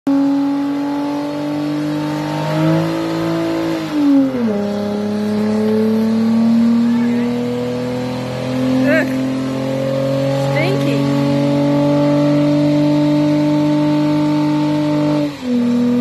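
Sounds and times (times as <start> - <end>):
car engine at high revs: 0.1 - 16.0.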